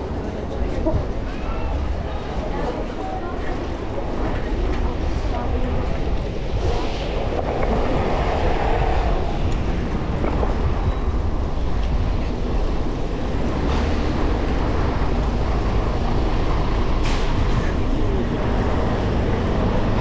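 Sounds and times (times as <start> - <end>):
wind noise: 0.0 - 2.8, 3.6 - 20.0
bicycle road rumble: 0.0 - 20.0.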